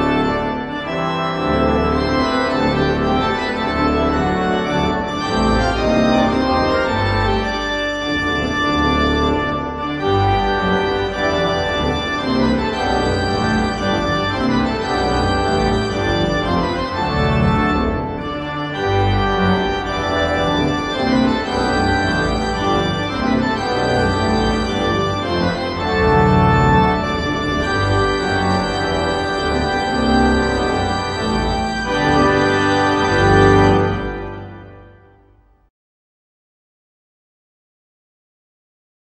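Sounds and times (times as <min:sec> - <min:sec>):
pipe organ chords: 0:00.0 - 0:35.6.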